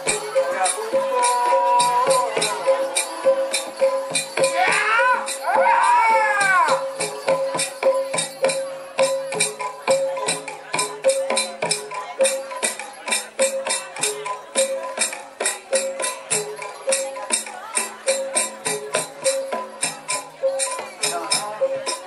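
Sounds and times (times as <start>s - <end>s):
fast jingling beat: 0.0s - 22.0s
repeating metallophone notes: 0.0s - 22.0s.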